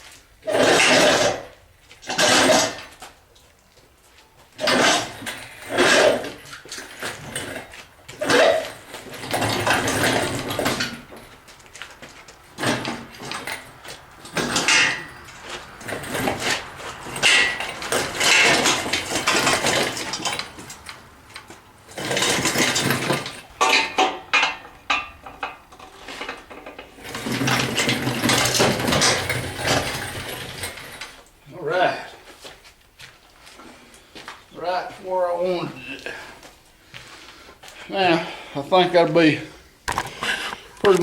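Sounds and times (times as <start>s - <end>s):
engine stand rattling and scraping: 0.0s - 3.3s, 4.4s - 31.4s, 34.8s - 41.0s.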